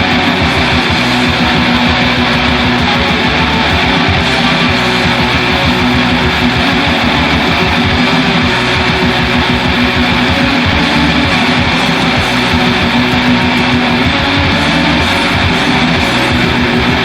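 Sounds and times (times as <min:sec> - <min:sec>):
distorted electric guitars: 0:00.0 - 0:17.0
fast driving drums: 0:00.0 - 0:17.0.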